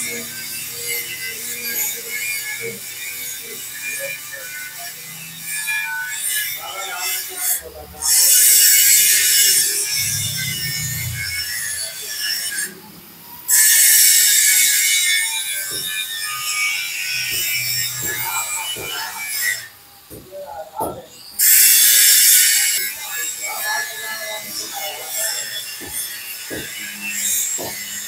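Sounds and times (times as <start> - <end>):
harsh scraping on metal: 0.0 - 28.0.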